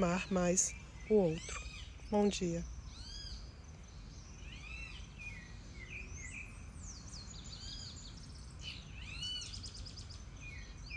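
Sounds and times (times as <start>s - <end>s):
birds chirping and trilling: 0.0s - 10.9s.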